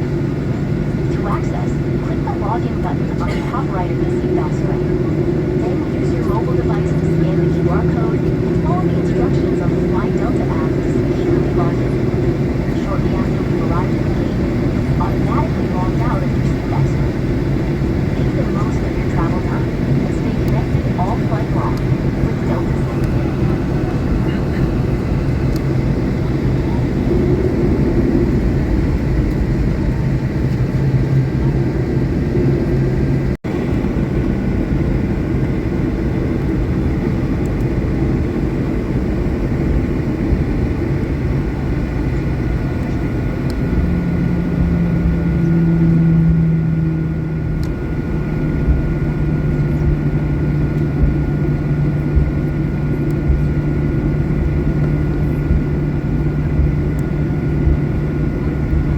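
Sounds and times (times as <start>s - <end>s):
airliner cabin low hum: 0.0s - 58.9s.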